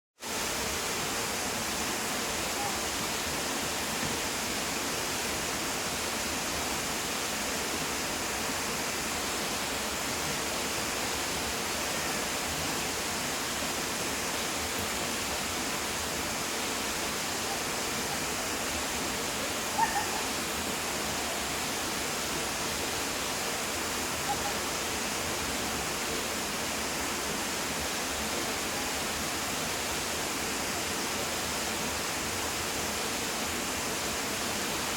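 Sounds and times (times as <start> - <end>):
waterfall roaring: 0.2 - 34.9.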